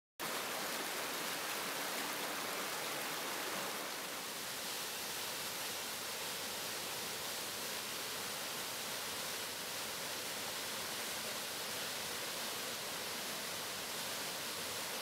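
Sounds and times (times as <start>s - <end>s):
waterfall rushing over rocks: 0.2s - 15.0s.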